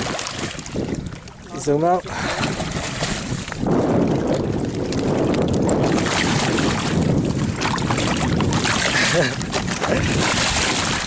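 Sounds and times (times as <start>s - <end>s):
fish thrashing in water: 0.0s - 11.0s
wind rumbling on microphone: 0.0s - 11.0s.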